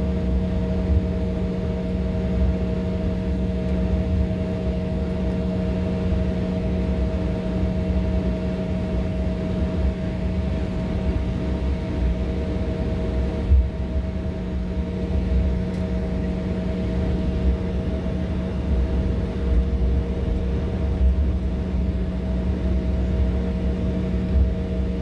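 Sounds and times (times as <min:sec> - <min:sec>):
jet engines idling hum: 0:00.0 - 0:25.0.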